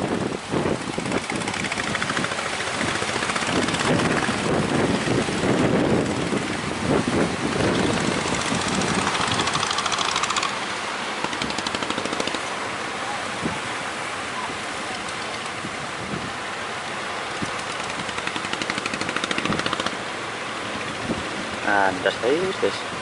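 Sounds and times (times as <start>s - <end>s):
heavy wind noise: 0.0s - 23.0s
outboard engine running: 0.0s - 23.0s.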